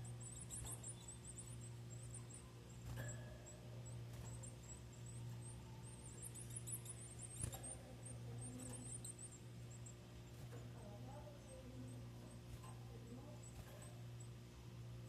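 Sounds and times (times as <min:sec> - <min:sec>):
bird chicks cheeping: 0:00.0 - 0:15.0
low hum: 0:00.0 - 0:15.0.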